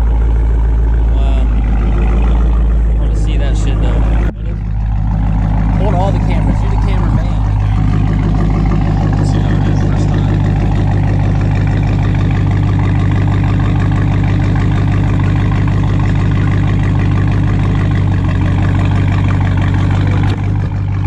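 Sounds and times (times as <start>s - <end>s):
car engine idling rumble: 0.0s - 21.0s.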